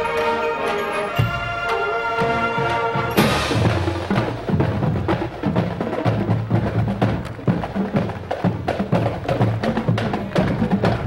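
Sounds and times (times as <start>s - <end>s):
marching band melody: 0.0s - 11.0s.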